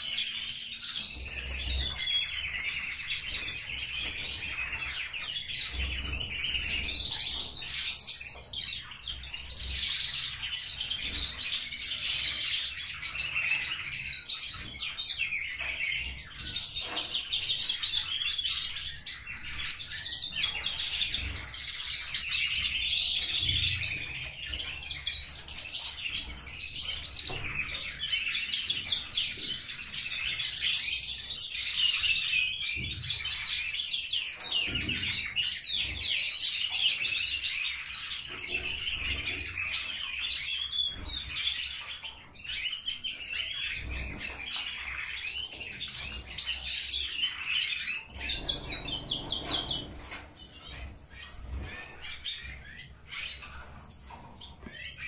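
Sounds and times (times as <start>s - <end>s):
canaries singing trills: 0.0s - 55.0s.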